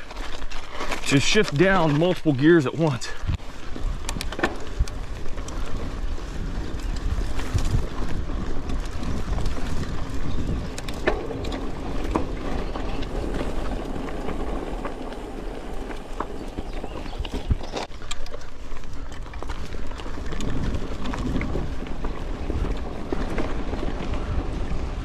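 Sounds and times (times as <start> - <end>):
bike clicks and rattles: 0.0 - 25.0
bike tyres crunching on gravel: 0.0 - 25.0
wind on microphone: 3.1 - 17.9, 18.6 - 25.0.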